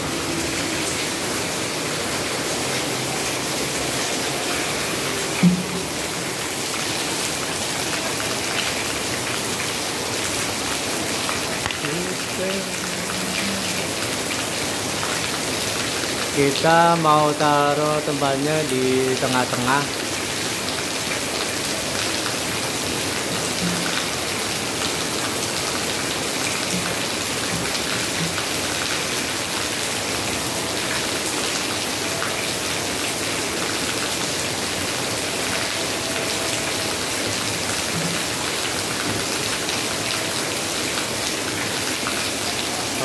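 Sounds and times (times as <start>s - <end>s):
heavy rain on concrete: 0.0s - 43.0s.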